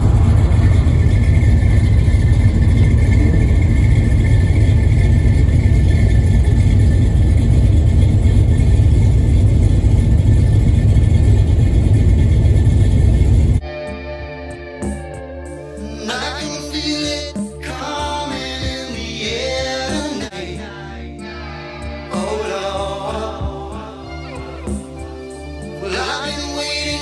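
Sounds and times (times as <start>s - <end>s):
car engines idling: 0.0s - 13.6s, 15.4s - 27.0s.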